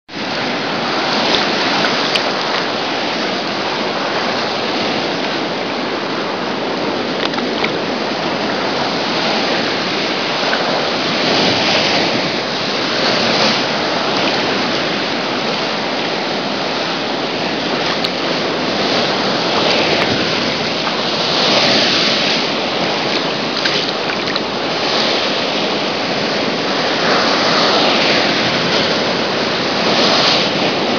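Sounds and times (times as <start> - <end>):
ocean waves sloshing: 0.1 - 30.9.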